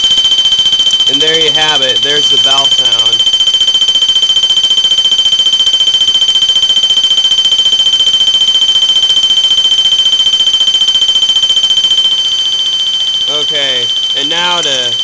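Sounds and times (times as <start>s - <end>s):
fire alarm bell tone: 0.0s - 15.0s.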